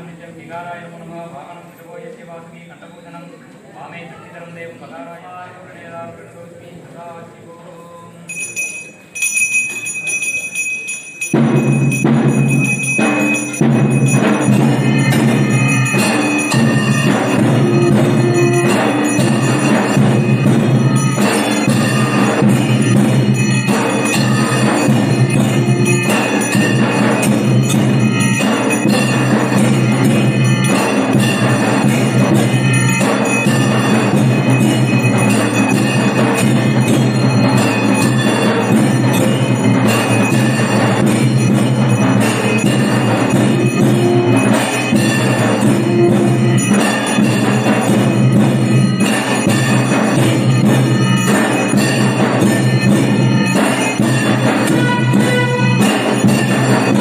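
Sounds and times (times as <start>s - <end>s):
temple bells ringing: 7.8s - 57.0s
single bell tone: 7.9s - 57.0s
drums: 8.1s - 57.0s.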